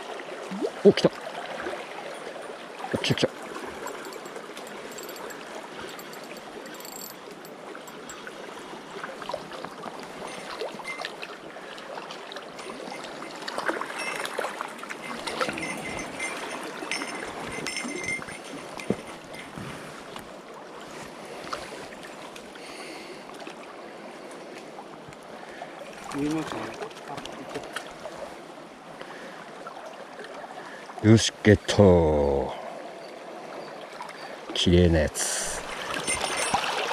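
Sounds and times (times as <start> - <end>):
river stream flowing: 0.0 - 36.9.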